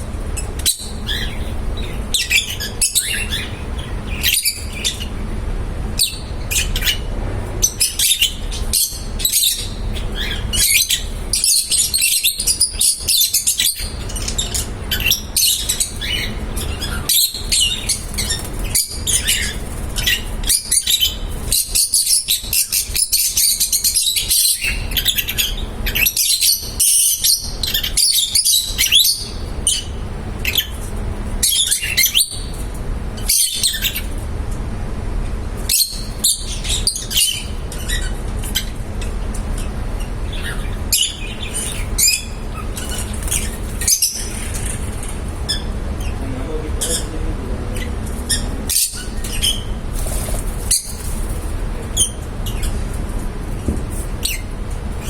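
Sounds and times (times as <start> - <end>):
lovebirds chirping: 0.0 - 34.2, 35.6 - 55.0.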